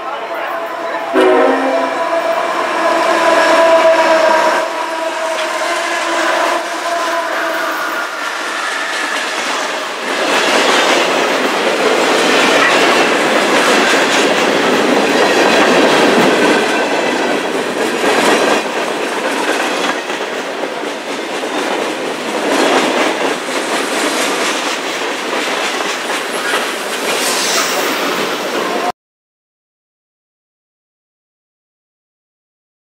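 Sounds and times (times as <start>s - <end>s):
train wheels rattling on rails: 0.0s - 28.9s.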